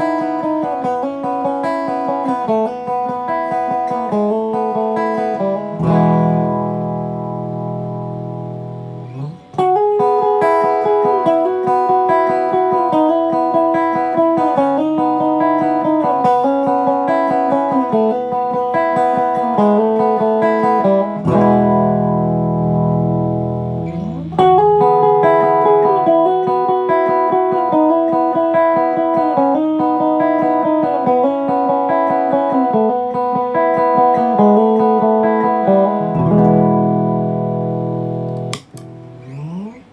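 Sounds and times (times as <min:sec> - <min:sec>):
boosted electric guitar: 0:00.0 - 0:39.9.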